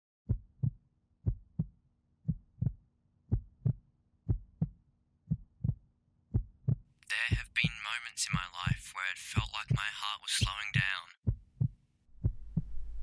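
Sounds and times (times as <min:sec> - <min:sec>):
heartbeat thumps: 0:00.3 - 0:13.0.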